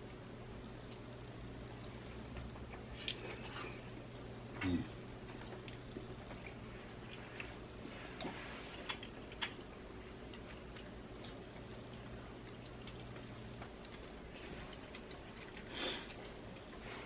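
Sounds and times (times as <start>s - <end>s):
low steady hum: 0.0s - 17.0s
soft chewing clicks and mouth noises: 0.0s - 17.0s.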